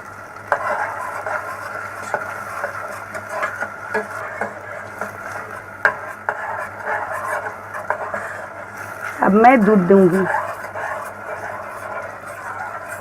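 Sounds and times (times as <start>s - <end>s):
paste frying: 0.0s - 13.0s
spoon scraping a pan: 0.4s - 13.0s.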